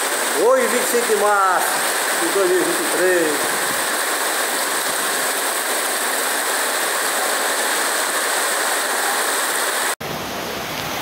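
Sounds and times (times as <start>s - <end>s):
heavy rain on tile roofs: 0.0s - 11.0s.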